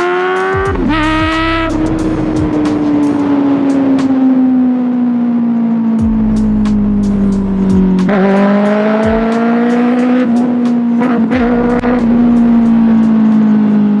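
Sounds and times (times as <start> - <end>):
motorcycle engine at high revs: 0.0 - 4.6, 6.0 - 14.0.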